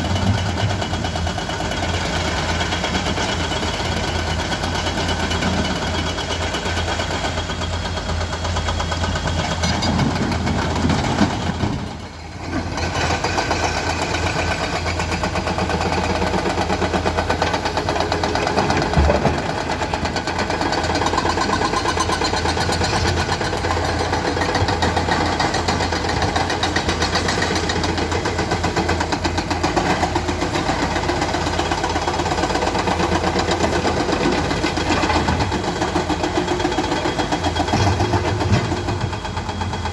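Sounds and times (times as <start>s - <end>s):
excavator diesel engine rattling: 0.0s - 39.9s.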